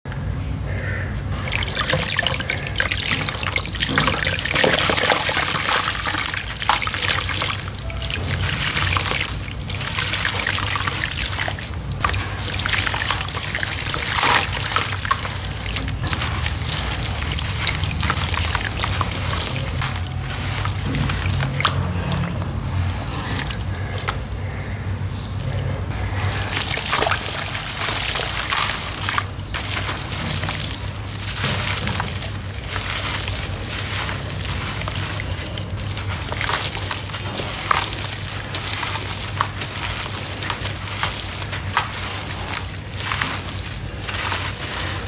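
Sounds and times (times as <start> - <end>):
low steady hum: 0.1 - 45.0
clumps crackling in water: 1.2 - 45.0.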